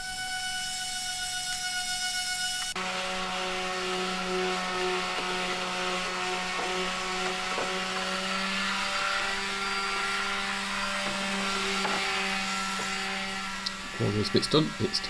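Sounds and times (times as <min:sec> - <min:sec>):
power tool motor humming: 0:00.0 - 0:15.0.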